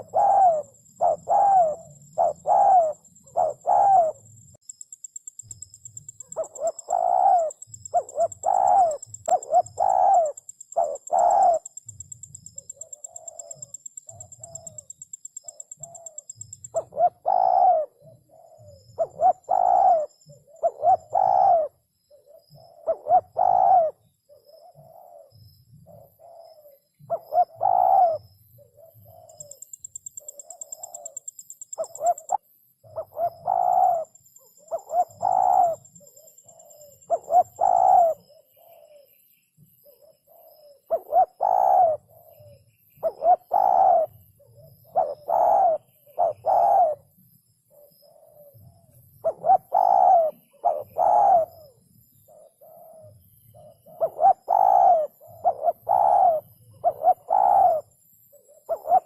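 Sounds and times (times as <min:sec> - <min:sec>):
dove cooing: 0:00.0 - 0:04.4, 0:05.9 - 0:39.2, 0:39.8 - 0:59.0.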